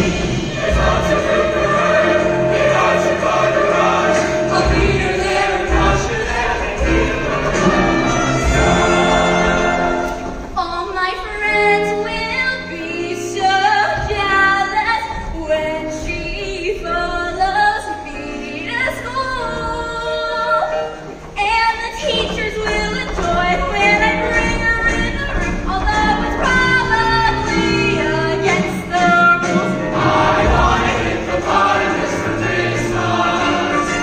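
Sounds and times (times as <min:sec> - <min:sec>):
choir singing wordless melody: 0:00.0 - 0:34.0.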